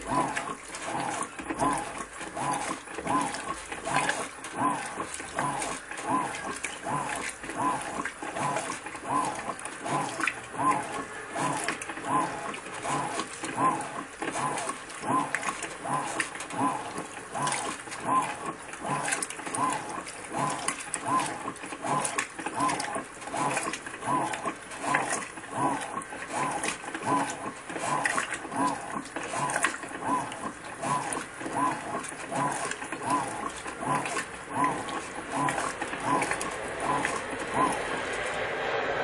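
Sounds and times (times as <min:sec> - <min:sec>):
washing machine motor whine: 0:00.0 - 0:39.0
wet laundry churning and sloshing: 0:00.0 - 0:39.0.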